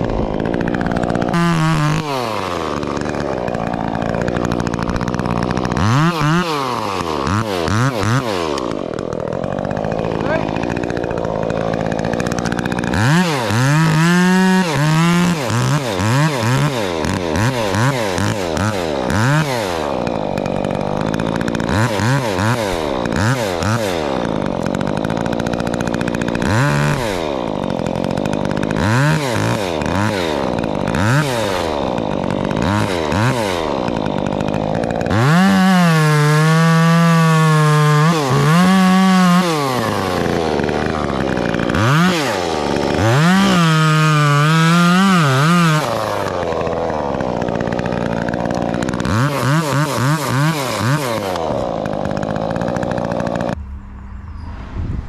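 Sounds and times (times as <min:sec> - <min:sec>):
chainsaw cutting wood: 0:00.0 - 0:53.9
chainsaw revving: 0:00.0 - 0:53.9.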